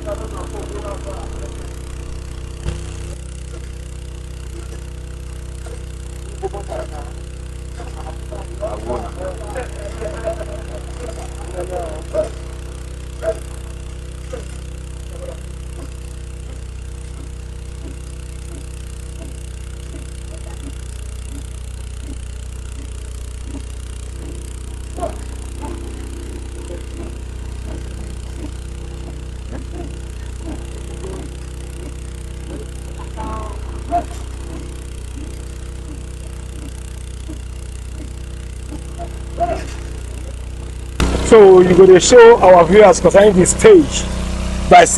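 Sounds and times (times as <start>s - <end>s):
drilling rig engine running: 0.0s - 44.9s.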